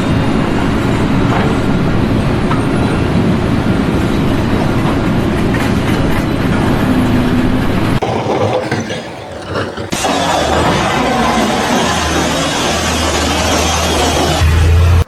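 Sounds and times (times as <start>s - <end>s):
mechanical rumble: 0.0s - 15.0s.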